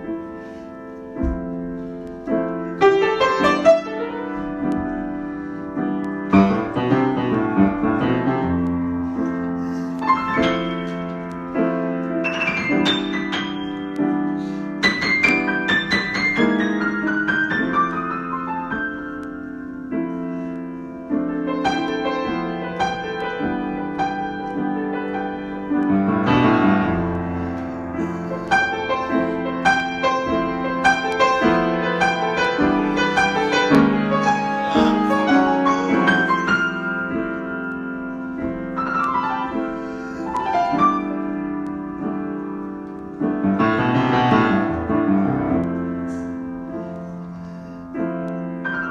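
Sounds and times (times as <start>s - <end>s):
solo piano: 0.0s - 48.9s.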